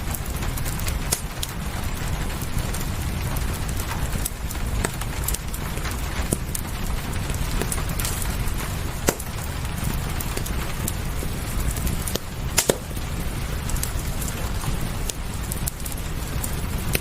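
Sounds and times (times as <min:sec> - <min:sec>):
rain hissing: 0:00.0 - 0:17.0
wood fire crackling and popping: 0:00.0 - 0:17.0.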